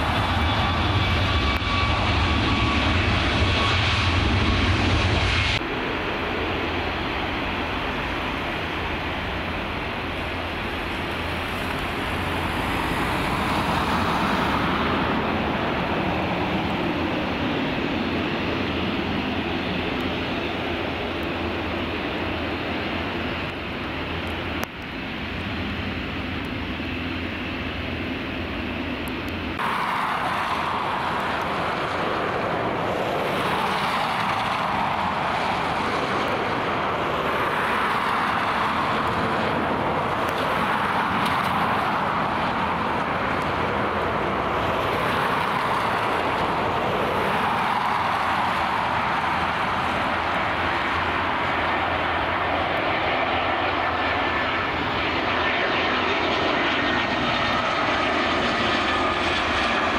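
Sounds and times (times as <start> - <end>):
airliner on approach: 0.0 - 59.9
low jet engine rumble: 0.0 - 59.9.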